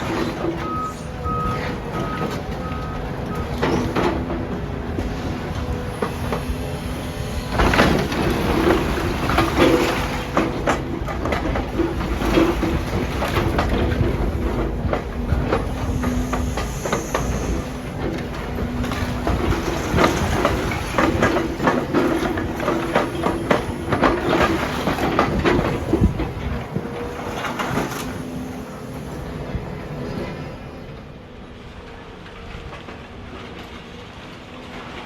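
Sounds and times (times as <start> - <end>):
heavy machine engine and hydraulics: 0.0 - 35.0.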